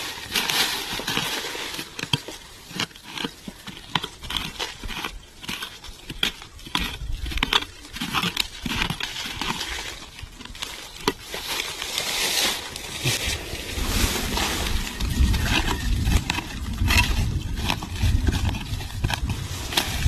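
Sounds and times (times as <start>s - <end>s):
dry leaves rustling: 0.0s - 20.0s
hoe scraping dry soil: 0.0s - 20.0s.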